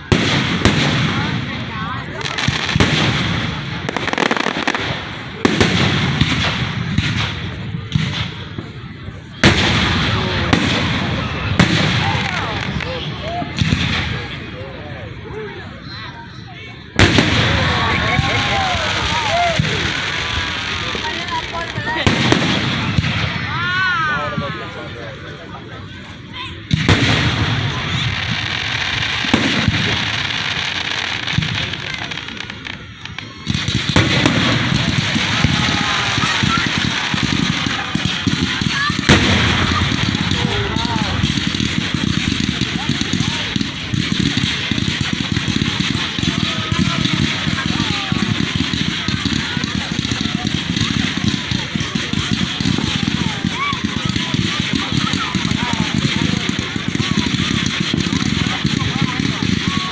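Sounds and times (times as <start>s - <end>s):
fireworks bangs: 0.0s - 59.9s
fireworks crackles: 0.0s - 59.9s.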